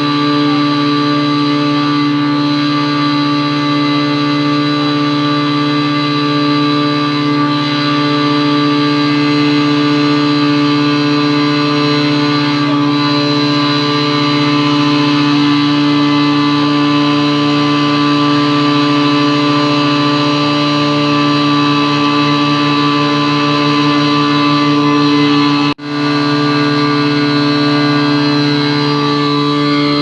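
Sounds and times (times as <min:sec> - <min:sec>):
pump engine running at high speed: 0:00.0 - 0:30.0.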